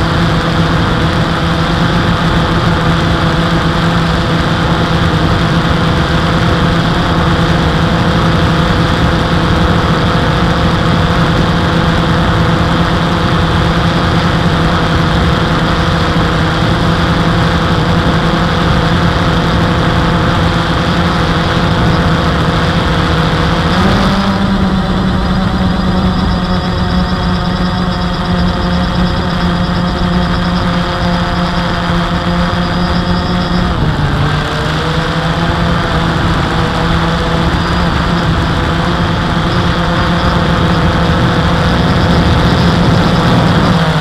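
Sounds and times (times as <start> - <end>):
drone motors humming: 0.0 - 44.0.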